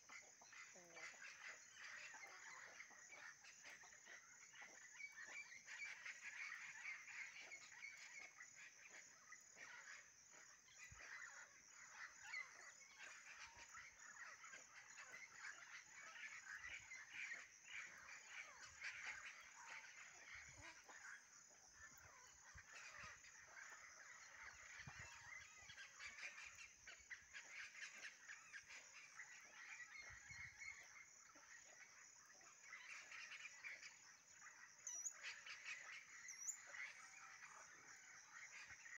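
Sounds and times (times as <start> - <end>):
bird calls: 0.0 - 38.9.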